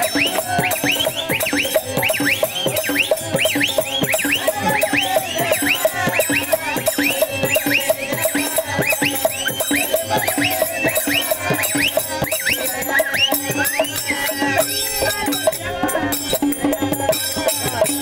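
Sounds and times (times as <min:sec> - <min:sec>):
shrill whistle-like tone: 0:00.0 - 0:15.7.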